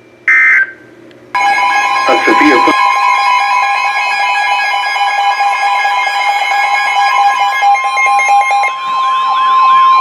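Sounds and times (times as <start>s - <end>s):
two-tone emergency alert signal: 1.4s - 10.0s.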